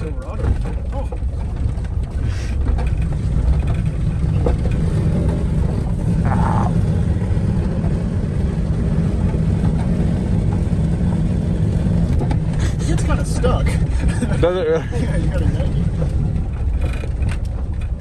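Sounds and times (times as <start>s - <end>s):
engine and road rumble inside cab: 0.0s - 18.0s.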